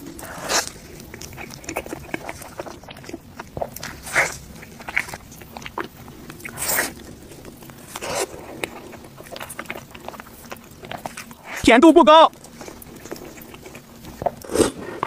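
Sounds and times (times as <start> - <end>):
biting into soft cake: 0.0 - 11.6, 12.3 - 15.0
wet chewing: 0.0 - 11.6, 12.3 - 15.0.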